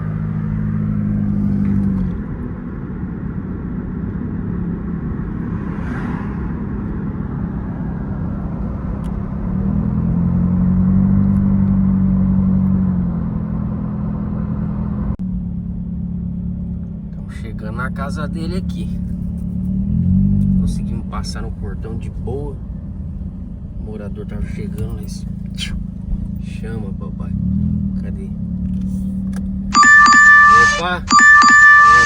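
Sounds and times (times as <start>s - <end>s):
car engine: 0.0s - 32.0s
road noise: 0.0s - 32.0s.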